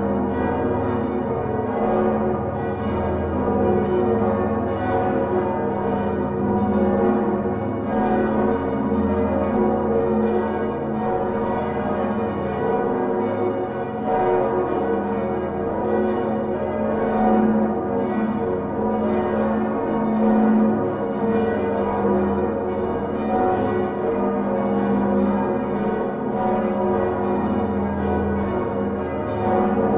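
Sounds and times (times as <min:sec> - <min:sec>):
church bells ringing in a peal: 0:00.0 - 0:29.9.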